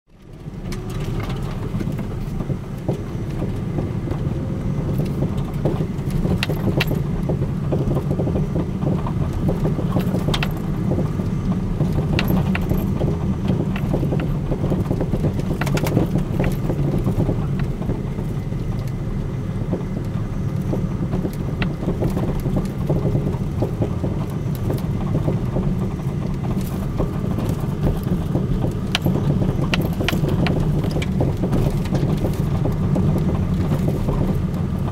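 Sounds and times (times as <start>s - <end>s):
car road rumble: 0.1s - 34.9s
suspension clicks and knocks: 0.1s - 34.9s.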